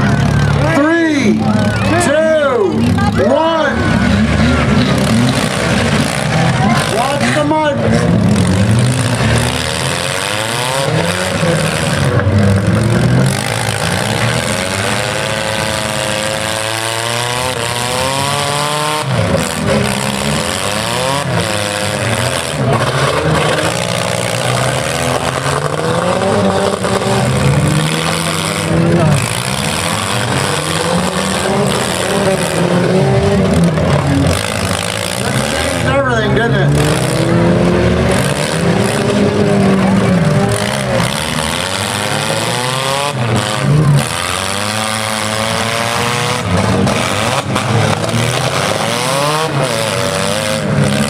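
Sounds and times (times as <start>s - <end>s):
car engines revving: 0.0s - 51.0s
cars colliding: 2.8s - 51.0s.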